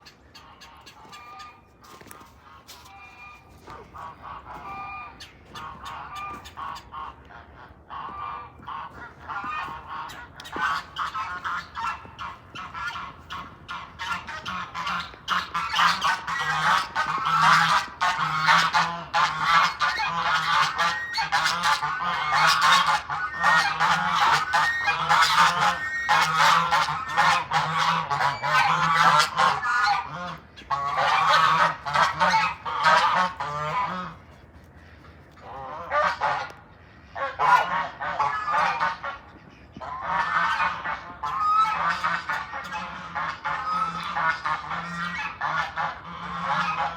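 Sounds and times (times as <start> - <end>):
waterfowl honking: 0.0 - 46.9.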